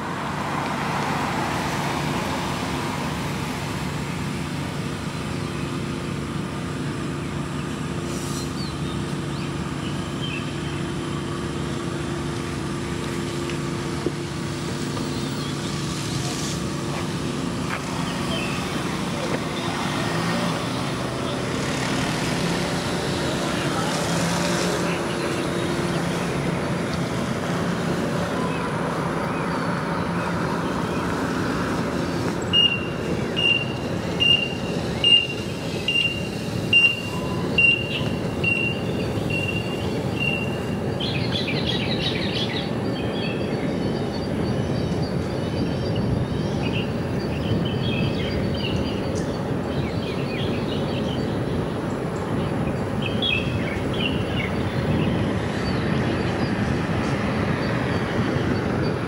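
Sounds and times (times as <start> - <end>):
car tyre and road noise: 0.0 - 59.0
birds chirping: 5.0 - 59.0.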